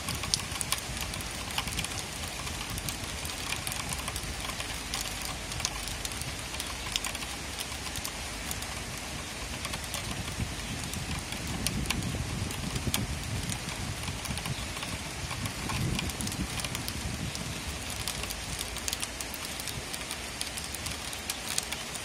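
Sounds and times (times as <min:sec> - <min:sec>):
rain falling: 0:00.0 - 0:22.0
raindrops tapping a surface: 0:00.0 - 0:22.0.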